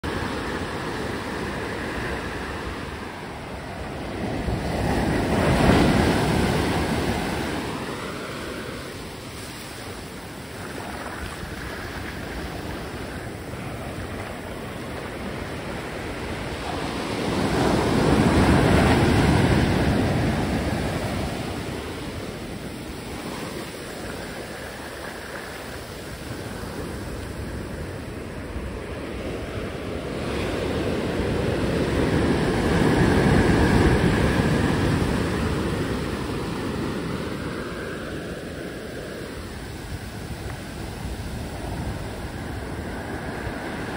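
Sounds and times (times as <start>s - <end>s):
ocean surf on a sandy beach: 0.0s - 43.9s
waves breaking: 0.0s - 43.9s.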